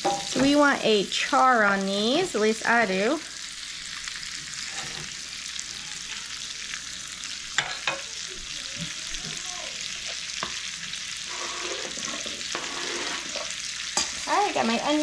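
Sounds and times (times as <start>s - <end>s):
sausage sizzling in a skillet: 0.0s - 15.0s.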